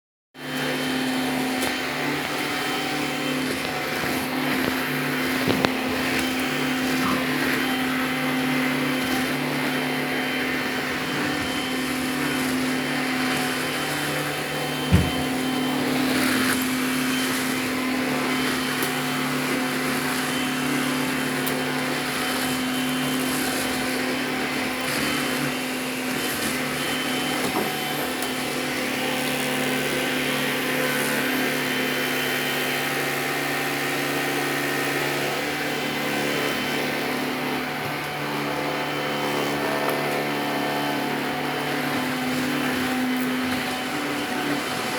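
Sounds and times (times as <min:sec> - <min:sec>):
vacuum cleaner motor running: 0:00.4 - 0:44.9.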